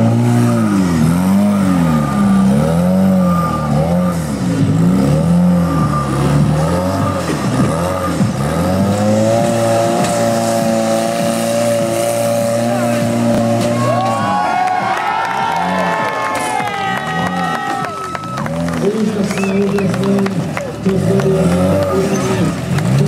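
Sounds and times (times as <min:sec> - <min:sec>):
buggy engine revving: 0:00.0 - 0:23.0.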